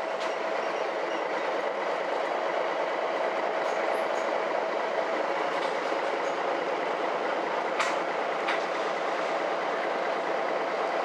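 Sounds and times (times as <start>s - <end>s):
bus engine and running gear drone: 0.0s - 11.0s.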